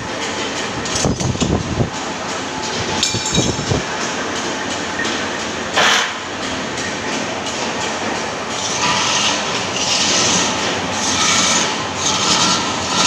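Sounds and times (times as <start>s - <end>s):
metalworking machinery clattering: 0.0s - 13.0s.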